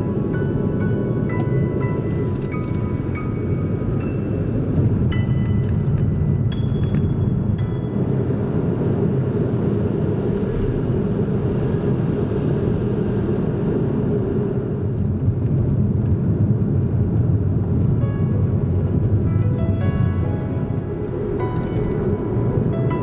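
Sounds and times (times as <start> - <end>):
car interior engine and road rumble: 0.0 - 23.0.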